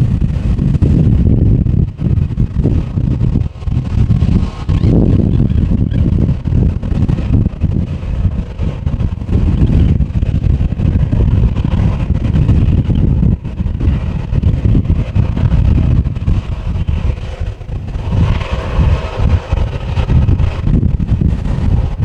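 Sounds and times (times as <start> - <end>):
jet engines humming: 0.0 - 22.0
wind buffeting microphone: 0.0 - 22.0.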